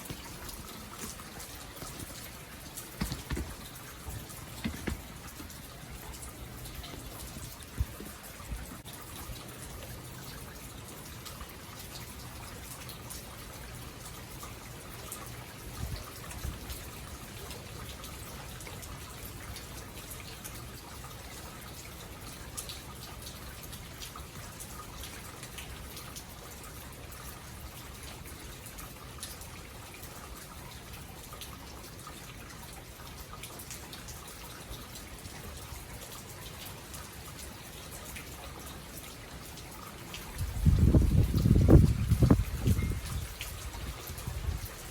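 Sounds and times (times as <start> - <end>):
raindrop ticks: 0.0 - 44.9
steady rain falling: 0.0 - 44.9.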